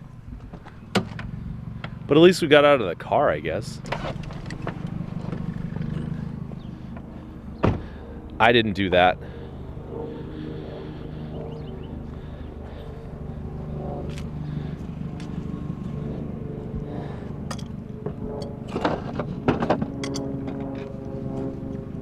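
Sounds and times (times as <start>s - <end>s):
vehicle engine idling: 0.0s - 20.3s.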